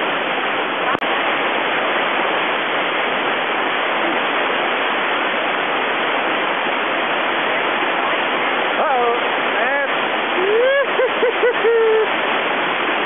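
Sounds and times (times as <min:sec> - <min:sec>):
water rushing over boulders: 0:00.0 - 0:13.0.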